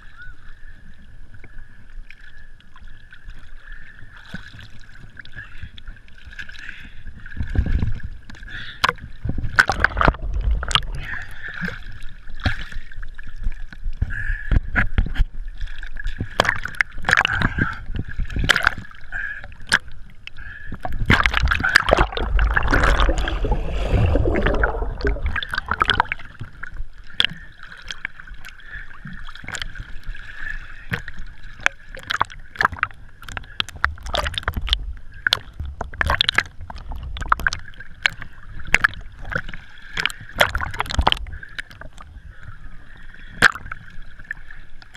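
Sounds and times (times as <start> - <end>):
water sloshing and splashing: 1.3 - 44.9.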